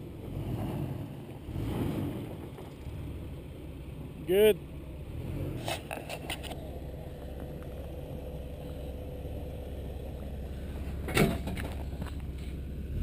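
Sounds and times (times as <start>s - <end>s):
engine running low: 0.0s - 13.0s.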